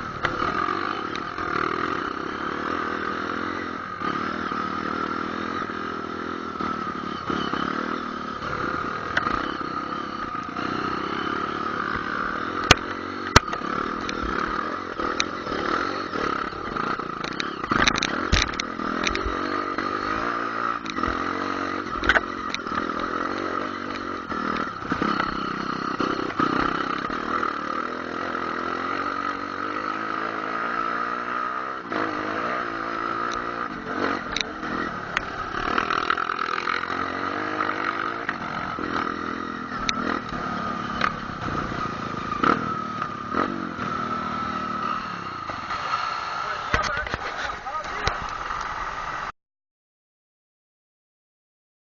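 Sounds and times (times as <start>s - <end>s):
motorcycle engine revving: 0.0s - 49.3s.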